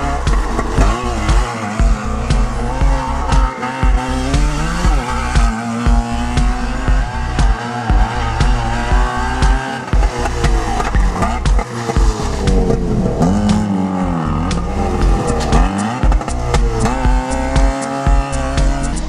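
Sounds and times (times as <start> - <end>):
tyres squealing: 0.0 - 17.9
car engine revving: 0.0 - 19.0
dance music with steady beat: 0.0 - 19.0.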